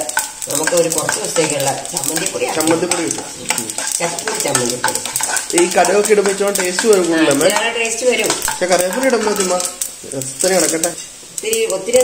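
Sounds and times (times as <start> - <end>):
spoon clicking on pan: 0.0 - 9.9
spoon scraping a pan: 0.0 - 11.6
oil sizzling: 0.0 - 12.0.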